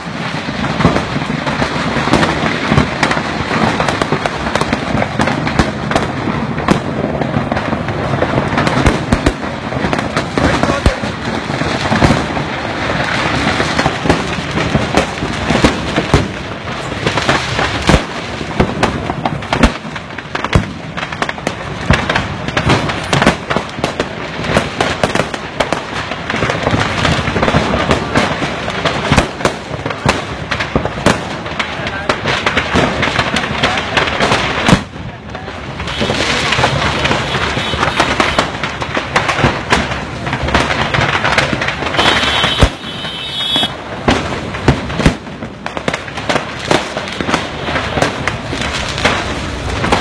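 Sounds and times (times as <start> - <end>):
firecrackers crackling: 0.0 - 50.0
loud firecracker reports: 0.0 - 50.0.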